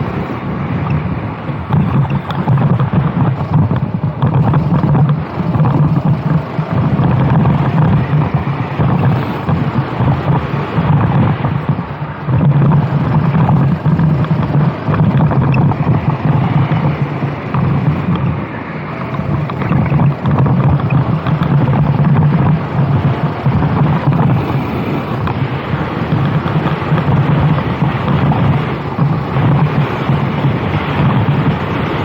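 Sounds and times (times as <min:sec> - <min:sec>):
kart engine running hard: 0:00.0 - 0:32.0
wind buffeting microphone: 0:00.0 - 0:32.0.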